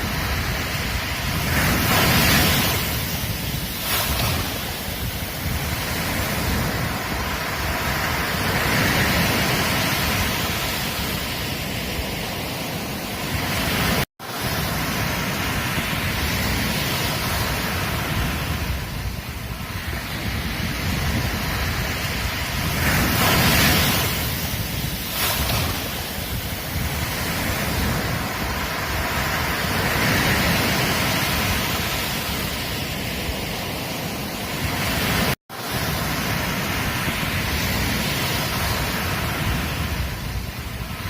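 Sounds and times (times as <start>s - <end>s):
ocean surf breaking: 0.0s - 41.0s
wind rumble on microphone: 0.0s - 41.0s.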